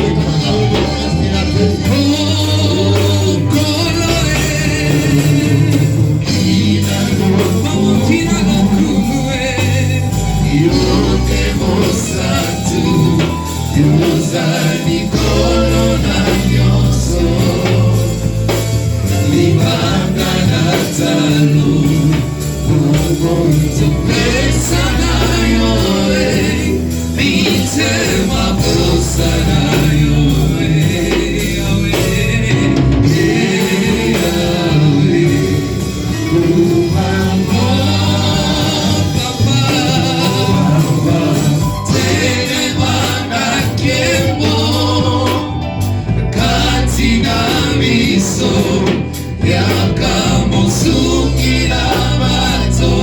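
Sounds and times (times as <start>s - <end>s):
group gospel singing: 0.0s - 53.0s
loud band music: 0.0s - 53.0s.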